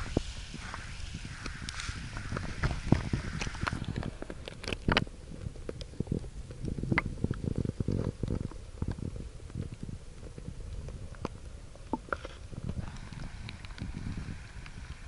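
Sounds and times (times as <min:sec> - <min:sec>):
underwater river rumble: 0:00.0 - 0:15.0.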